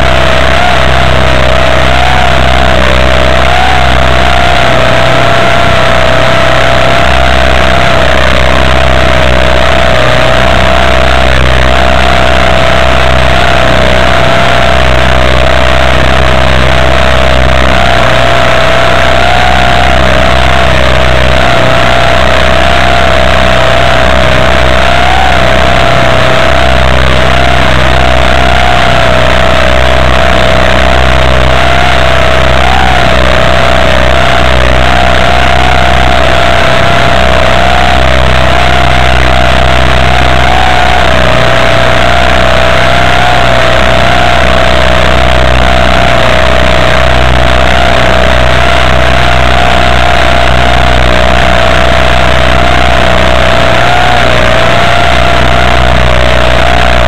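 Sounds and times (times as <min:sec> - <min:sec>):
model motor whining: 0:00.0 - 0:57.0.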